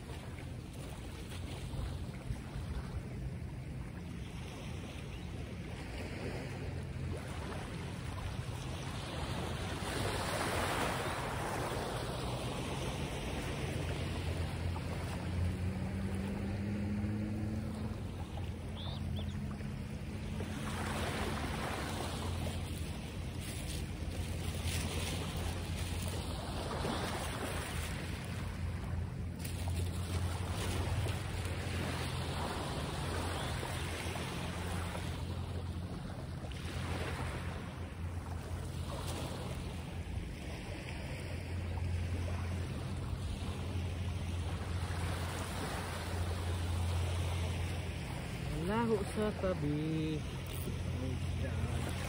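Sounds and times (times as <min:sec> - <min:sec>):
low steady hum: 0:00.0 - 0:52.0
surf: 0:00.0 - 0:52.0.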